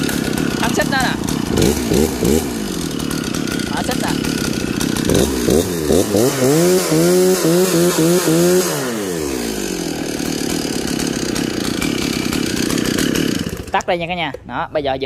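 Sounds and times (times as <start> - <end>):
chainsaw revving: 0.0 - 14.2.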